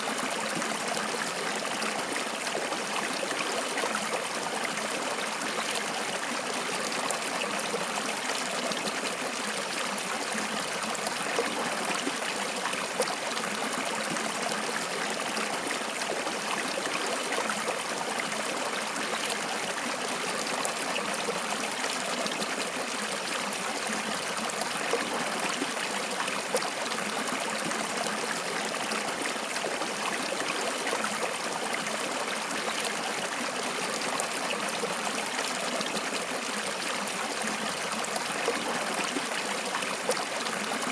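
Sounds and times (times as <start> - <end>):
stream trickling and babbling: 0.0 - 40.9.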